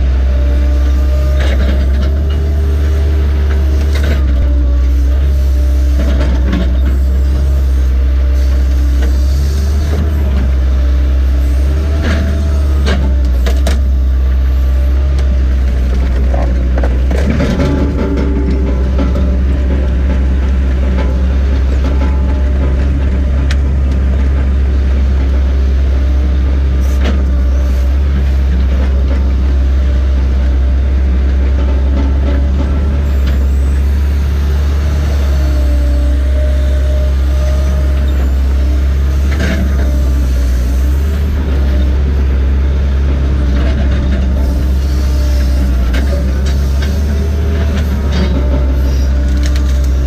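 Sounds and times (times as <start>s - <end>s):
diesel engine droning: 0.0s - 50.0s.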